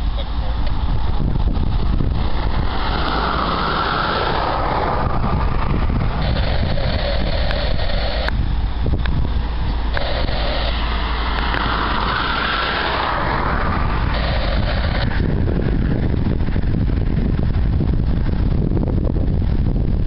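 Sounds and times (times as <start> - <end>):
diesel locomotive engines rumbling: 0.0 - 20.0
wind noise on microphone: 0.0 - 20.0.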